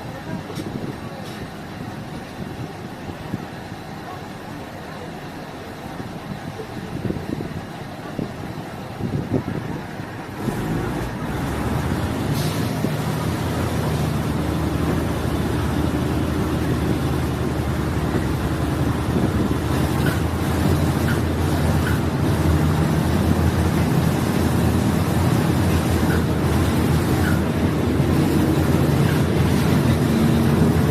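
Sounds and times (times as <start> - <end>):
train engine and running gear: 0.0 - 30.9.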